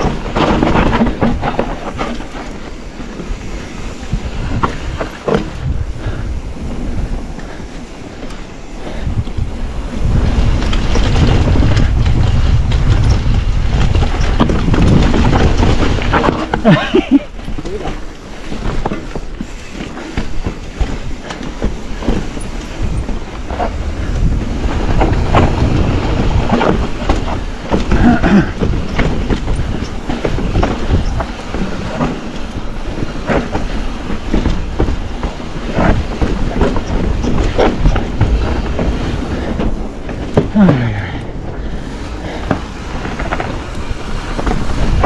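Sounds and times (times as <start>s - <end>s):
bike chain and frame clattering: 0.0s - 45.0s
bike tyres crunching over stones: 0.0s - 45.0s
wind rumble on microphone: 0.0s - 45.0s.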